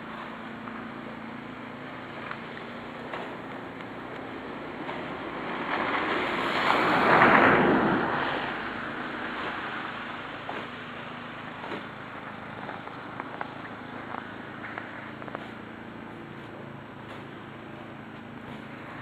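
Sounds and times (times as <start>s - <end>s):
vehicle tyres on snowy street: 0.0s - 19.0s.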